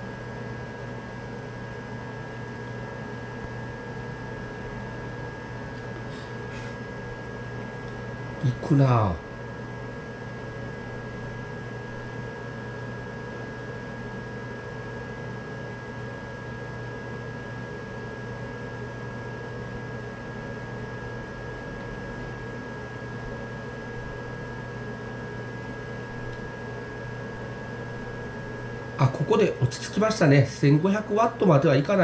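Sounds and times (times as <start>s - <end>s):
cooling fans running: 0.0s - 32.0s.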